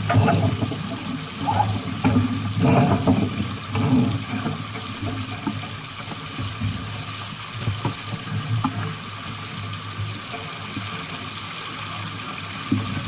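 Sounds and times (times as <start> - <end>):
water rushing along boat hull: 0.0 - 13.0
water slapping hull: 0.0 - 13.0.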